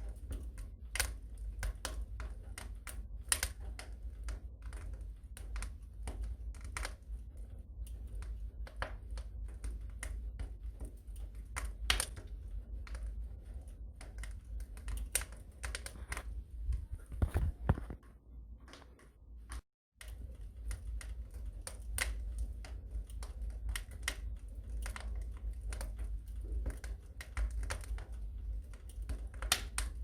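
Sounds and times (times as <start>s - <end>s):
steady low rumble: 0.0s - 18.6s, 19.4s - 30.0s
wood fire crackling and popping: 0.0s - 30.0s.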